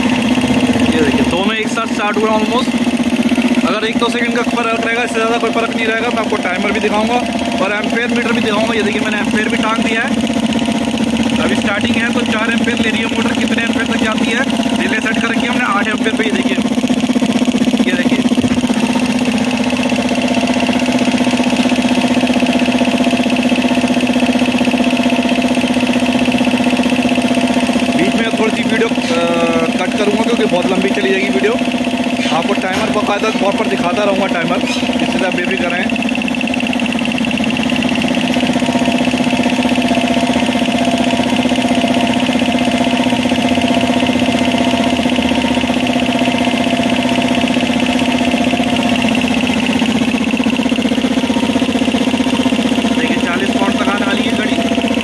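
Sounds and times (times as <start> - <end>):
air compressor pumping: 0.0 - 55.0.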